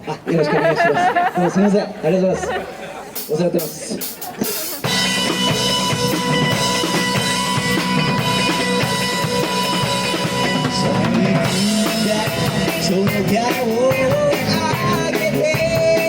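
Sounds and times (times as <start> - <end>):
live rock band playing: 3.1 - 16.0.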